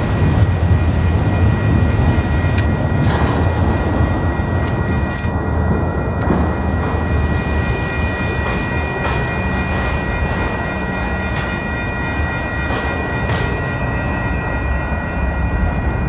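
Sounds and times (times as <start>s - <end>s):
crossing warning bell ringing: 0.0s - 16.0s
freight train rumbling: 0.0s - 16.0s.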